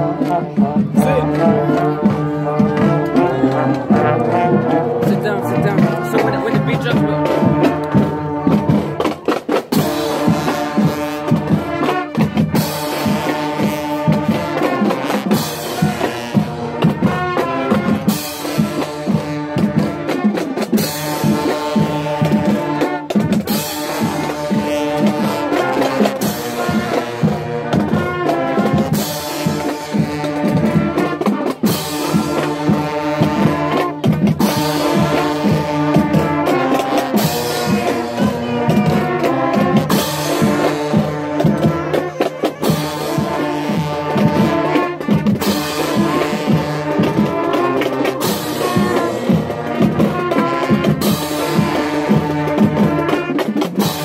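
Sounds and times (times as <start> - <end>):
brass section playing a tune: 0.0 - 54.0
steady drumbeat: 0.0 - 54.0.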